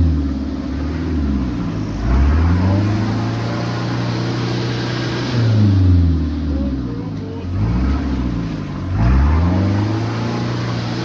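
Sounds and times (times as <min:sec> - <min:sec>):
vehicle engine revving under load: 0:00.0 - 0:11.0.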